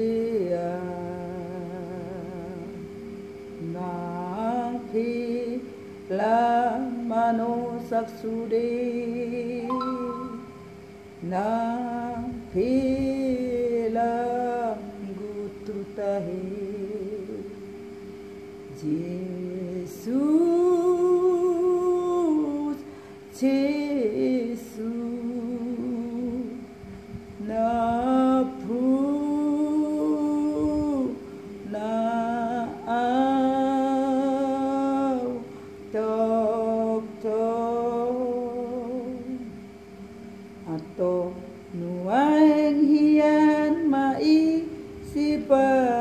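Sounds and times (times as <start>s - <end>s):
woman singing a hymn: 0.0s - 2.9s, 3.6s - 17.6s, 18.7s - 26.7s, 27.4s - 39.7s, 40.6s - 46.0s
faint steady hum: 0.0s - 46.0s.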